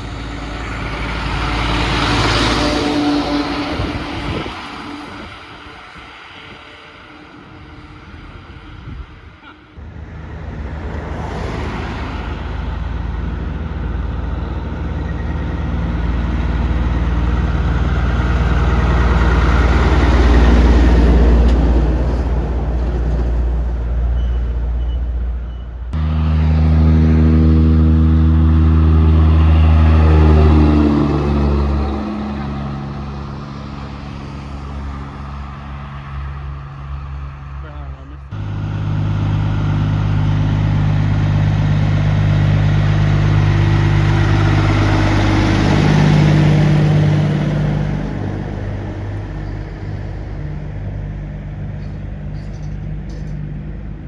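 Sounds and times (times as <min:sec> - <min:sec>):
truck diesel engines passing: 0:00.0 - 0:54.0.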